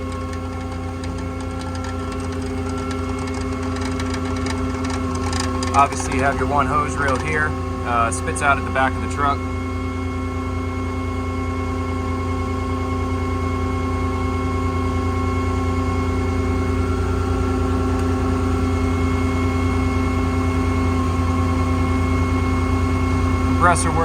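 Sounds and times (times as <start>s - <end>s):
air compressor humming: 0.0s - 24.0s.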